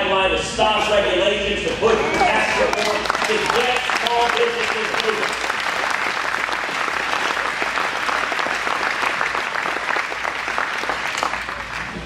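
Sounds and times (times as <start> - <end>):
crowd applauding: 2.1 - 12.0.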